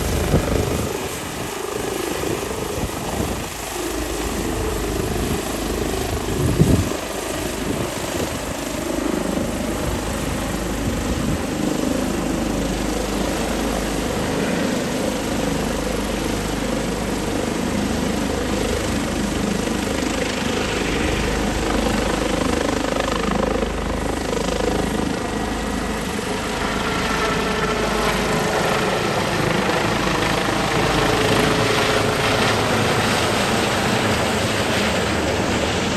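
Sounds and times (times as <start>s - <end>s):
helicopter rotor and turbine noise: 0.0s - 35.9s.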